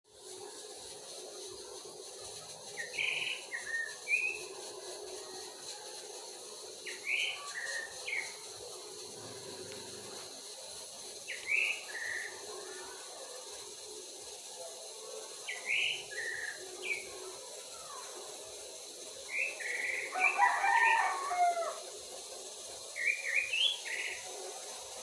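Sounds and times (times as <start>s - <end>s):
faint steady hiss: 0.1s - 25.0s.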